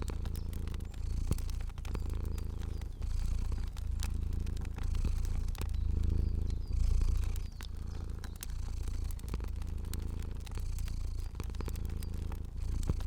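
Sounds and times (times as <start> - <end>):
cat purring: 0.0 - 13.0
fire crackling: 0.0 - 13.0.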